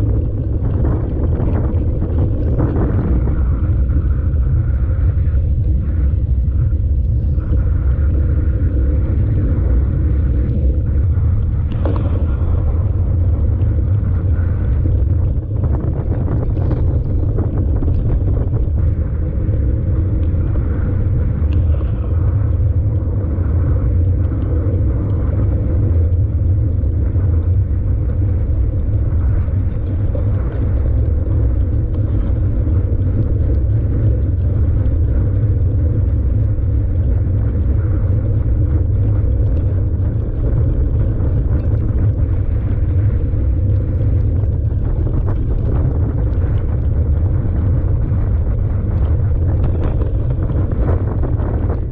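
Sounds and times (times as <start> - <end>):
mountain bike riding noise: 0.0 - 51.9
wind buffeting camera: 0.0 - 51.9.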